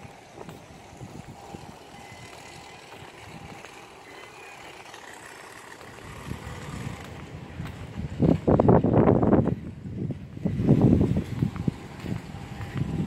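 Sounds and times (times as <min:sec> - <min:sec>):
distant traffic hum: 0:00.0 - 0:13.0.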